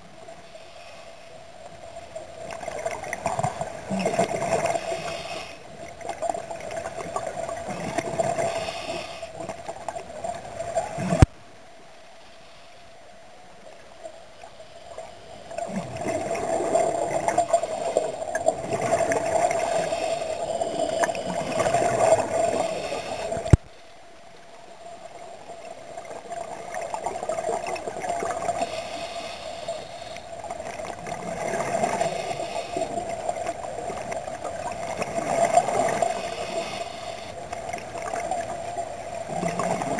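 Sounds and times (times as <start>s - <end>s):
steady underwater hum: 0.0s - 39.9s
scuba exhaled bubbles gurgling: 2.2s - 11.3s, 14.9s - 23.6s, 25.0s - 39.9s.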